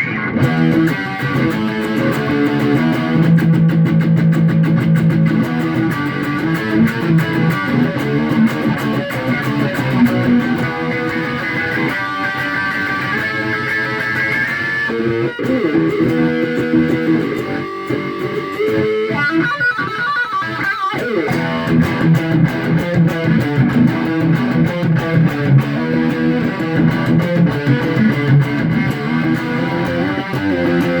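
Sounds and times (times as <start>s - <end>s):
distorted electric guitar: 0.0s - 31.0s.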